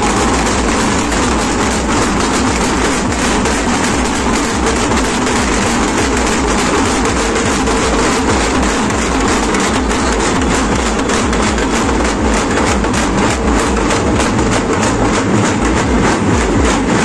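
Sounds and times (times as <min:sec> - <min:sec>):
dense crowd noise: 0:00.0 - 0:17.0
rapid drumming: 0:00.0 - 0:17.0.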